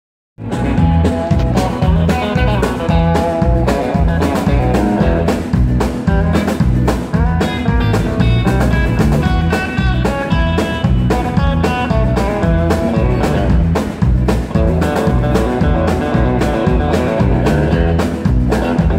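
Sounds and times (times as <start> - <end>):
drums with steady beat: 0.4 - 18.9
electric guitar: 0.4 - 18.9.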